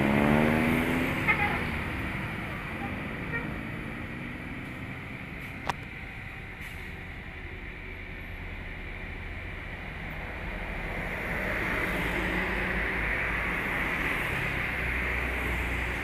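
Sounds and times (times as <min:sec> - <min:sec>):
diesel trucks passing: 0:00.0 - 0:16.0.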